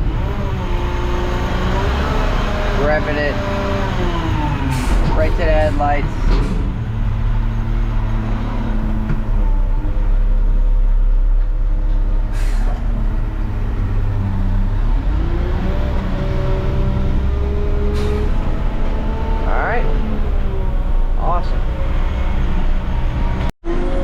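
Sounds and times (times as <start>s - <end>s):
garbage truck engine revving: 0.0s - 24.0s.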